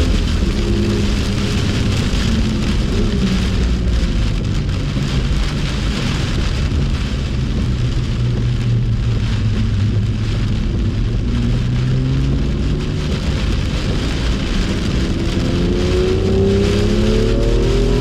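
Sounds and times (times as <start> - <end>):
car engine running: 0.0 - 18.0
rain and spray hiss: 0.0 - 18.0.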